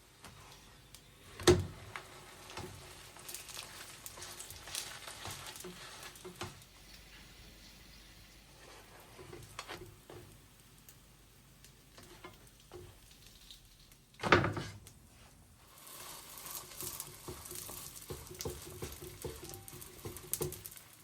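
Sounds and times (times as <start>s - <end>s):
food sizzling in a pan: 0.0s - 14.1s, 15.0s - 21.0s.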